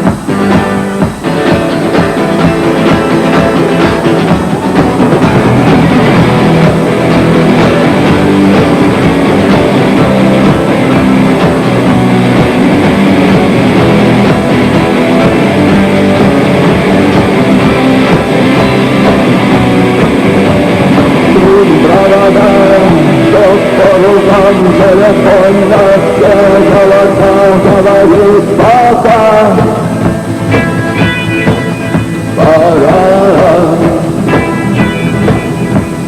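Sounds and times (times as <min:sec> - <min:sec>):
instrumental rock music: 0:00.0 - 0:36.0.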